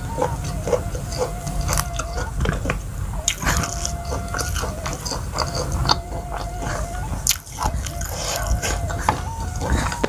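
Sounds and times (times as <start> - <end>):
chewing leafy greens: 0.0 - 10.0
faint bamboo flute melody: 0.0 - 10.0.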